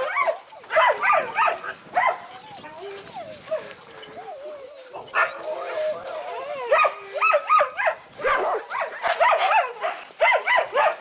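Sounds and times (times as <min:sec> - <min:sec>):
dogs yelping and howling: 0:00.0 - 0:11.0.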